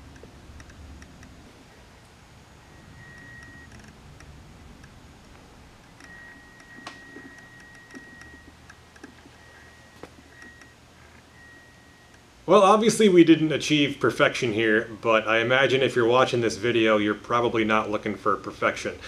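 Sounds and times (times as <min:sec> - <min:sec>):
low hum: 0:00.0 - 0:18.3
thin high whine: 0:00.0 - 0:19.0.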